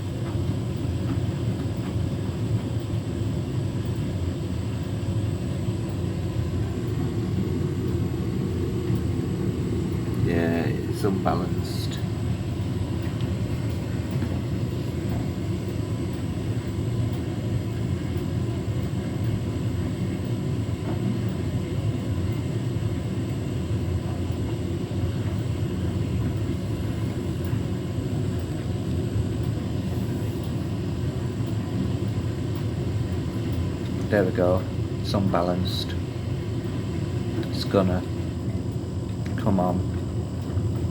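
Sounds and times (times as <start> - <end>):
washing machine drum rumbling: 0.0 - 40.9.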